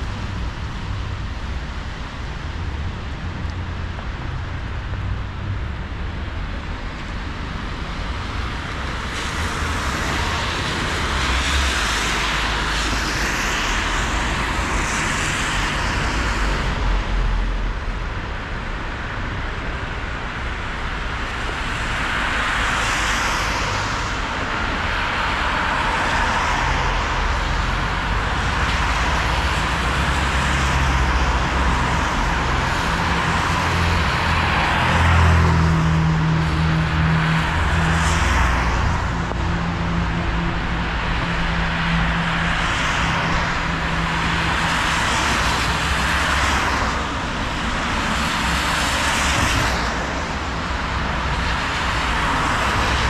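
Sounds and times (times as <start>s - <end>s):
tyres hissing on wet road: 6.9s - 53.0s.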